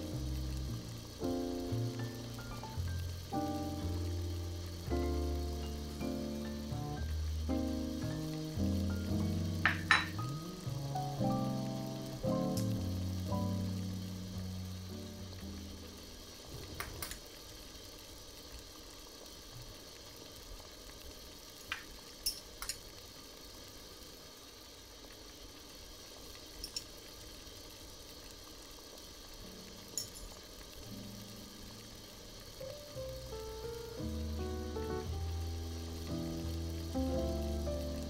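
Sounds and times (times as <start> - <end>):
broth boiling and bubbling: 0.0 - 38.0.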